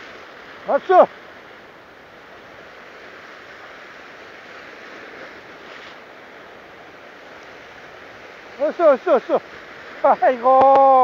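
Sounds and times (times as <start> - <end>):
ocean surf over rocks: 0.0 - 11.0.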